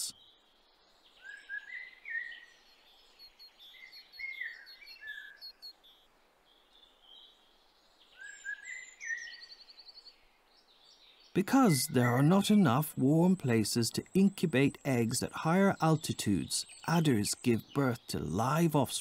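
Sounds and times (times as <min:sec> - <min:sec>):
songbird chirping and trilling: 0:00.0 - 0:19.0.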